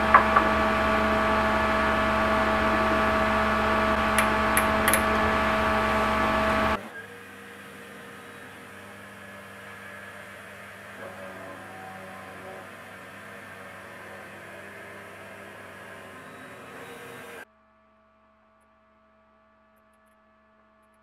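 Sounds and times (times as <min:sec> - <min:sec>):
electric machine hum: 0:00.0 - 0:17.5.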